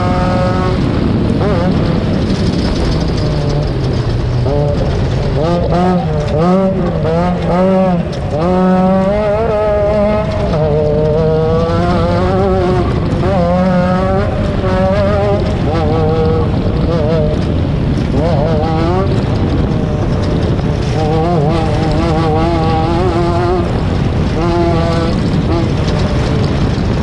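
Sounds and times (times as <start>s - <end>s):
race vehicle engine revving: 0.0s - 27.0s.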